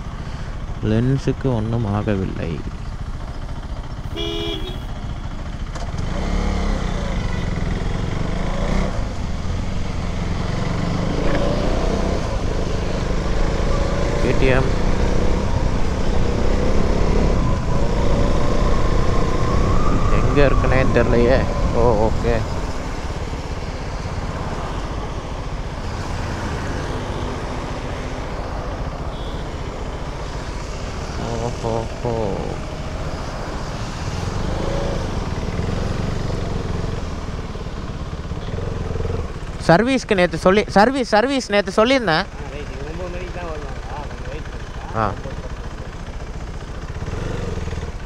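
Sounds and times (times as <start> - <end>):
motorcycle engine rumble: 0.0 - 48.0
road traffic: 0.0 - 48.0.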